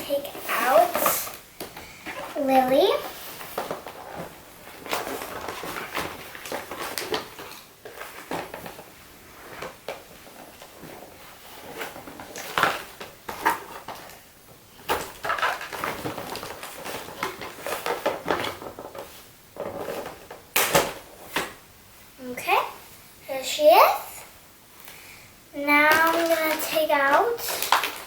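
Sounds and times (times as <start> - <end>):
packaging rustling and scraping: 0.0 - 21.6, 25.7 - 28.0.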